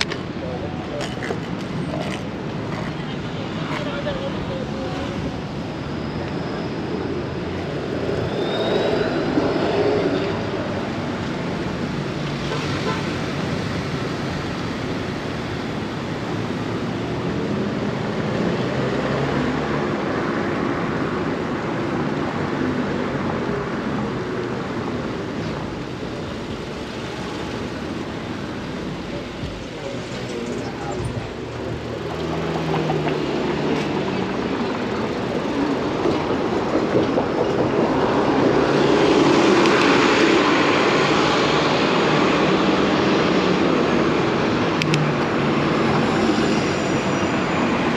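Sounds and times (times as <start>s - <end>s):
city street traffic: 0.0s - 47.9s.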